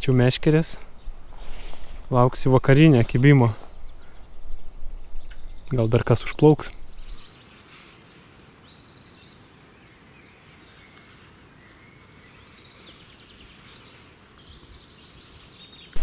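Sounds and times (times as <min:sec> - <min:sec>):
faint steady outdoor hiss: 0:00.0 - 0:16.0
songbirds singing: 0:00.0 - 0:16.0.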